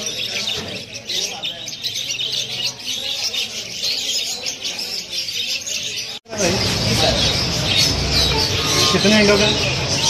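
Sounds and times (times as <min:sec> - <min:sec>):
caged birds chirping: 0:00.0 - 0:10.0
market din: 0:00.0 - 0:10.0
voices: 0:00.0 - 0:10.0.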